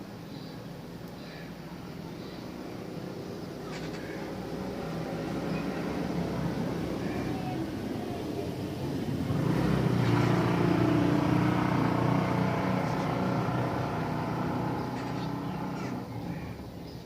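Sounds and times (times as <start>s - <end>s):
vehicle engine passing by: 2.4s - 16.9s.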